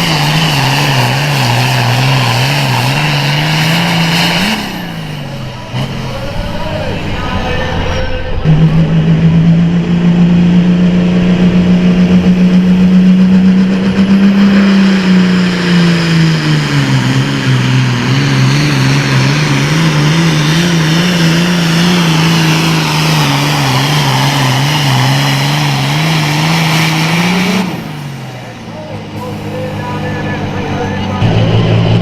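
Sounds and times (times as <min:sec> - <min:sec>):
tractor diesel engine under load: 0:00.0 - 0:32.0.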